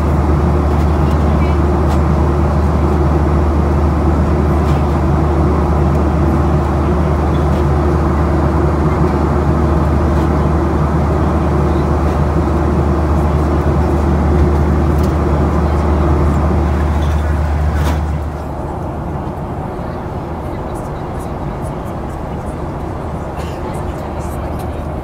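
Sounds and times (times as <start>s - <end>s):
aircraft engine drone: 0.0s - 25.0s.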